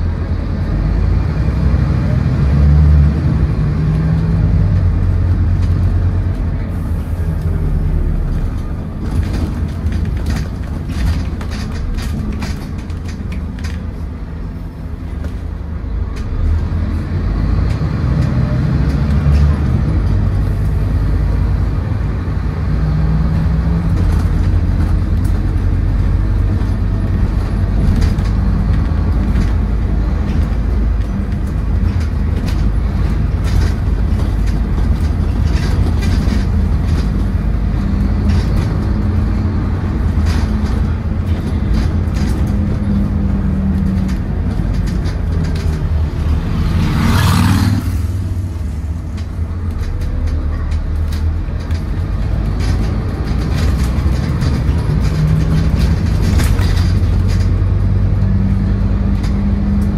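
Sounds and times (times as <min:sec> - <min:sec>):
bus diesel engine pulling: 0:00.0 - 0:59.9
interior rattles and clicks: 0:03.2 - 0:59.9.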